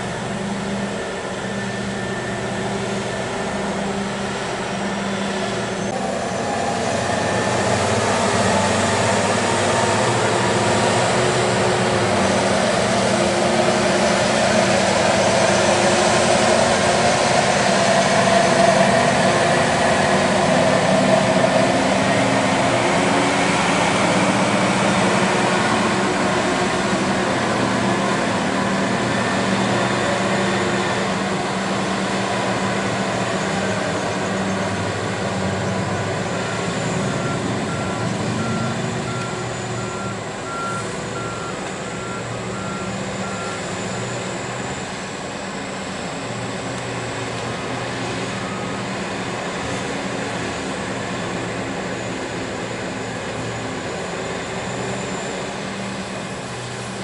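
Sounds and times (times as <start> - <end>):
excavator running under load: 0.0 - 57.0.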